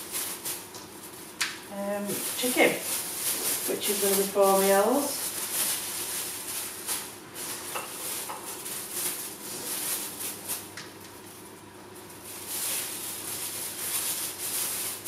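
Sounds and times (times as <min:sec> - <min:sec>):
mince sizzling in a pot: 0:00.0 - 0:15.0
plastic bags rustling and crinkling: 0:00.0 - 0:15.0.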